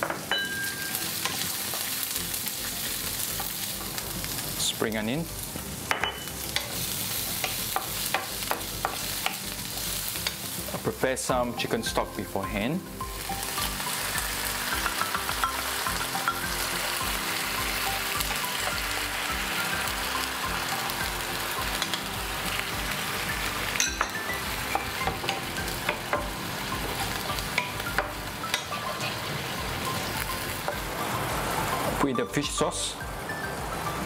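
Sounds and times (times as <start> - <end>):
food sizzling in a frying pan: 0.0 - 34.0.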